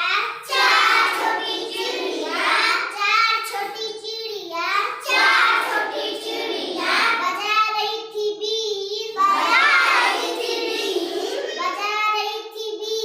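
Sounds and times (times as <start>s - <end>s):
child singing: 0.0s - 13.0s.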